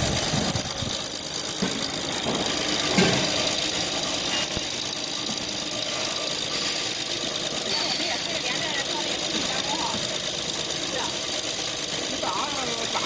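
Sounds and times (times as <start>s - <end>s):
steady machine tones: 0.0s - 13.0s.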